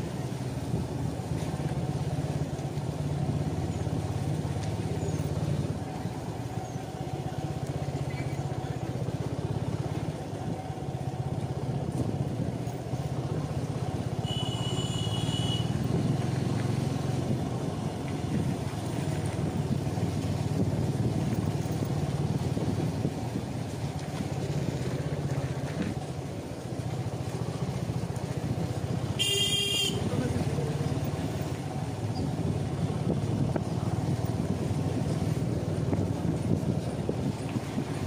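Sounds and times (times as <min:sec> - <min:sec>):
motorcycle engine running: 0:01.2 - 0:38.0.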